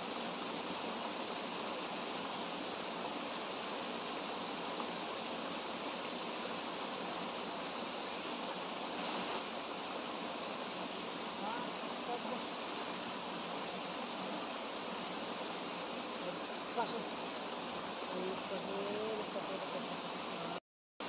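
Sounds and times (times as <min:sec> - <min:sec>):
stream rushing over rocks: 0:00.0 - 0:20.6.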